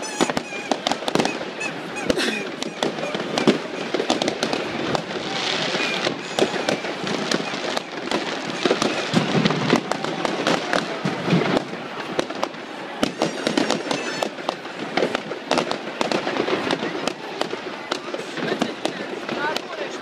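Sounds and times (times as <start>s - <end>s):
firework whistle: 0.0s - 19.3s
fireworks bangs and crackles: 0.0s - 20.0s.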